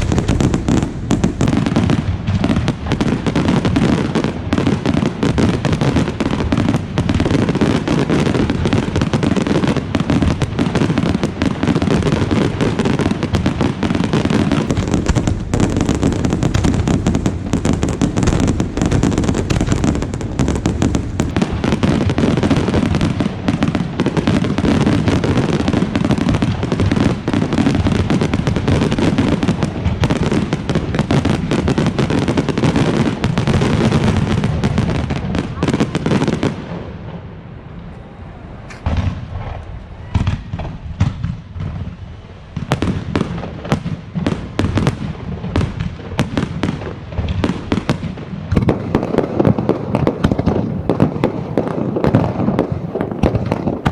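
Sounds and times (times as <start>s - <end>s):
fireworks bursts and crackles: 0.0s - 53.9s.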